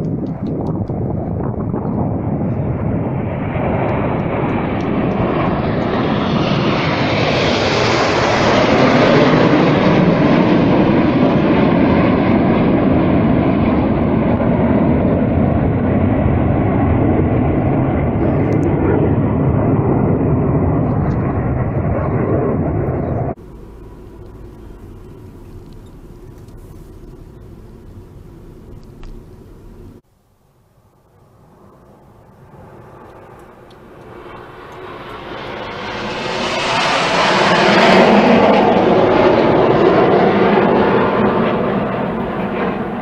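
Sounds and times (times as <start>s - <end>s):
jets flying past roaring: 0.0s - 30.0s, 31.0s - 43.0s.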